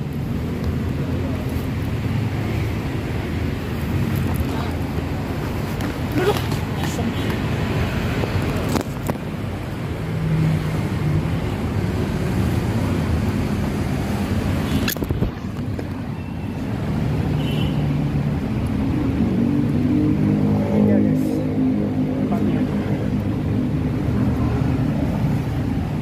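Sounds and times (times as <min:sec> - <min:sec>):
vehicle engines passing: 0:00.0 - 0:26.0.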